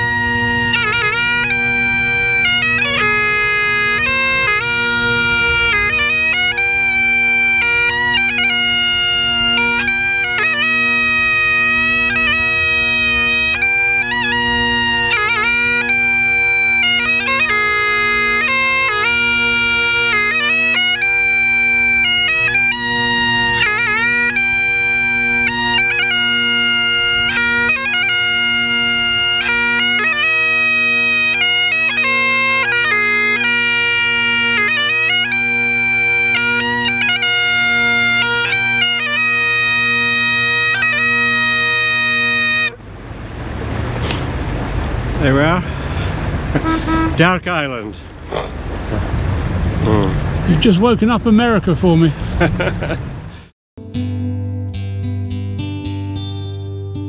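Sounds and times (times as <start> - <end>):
bagpipes playing a melody: 0.0 - 44.2, 45.0 - 48.2.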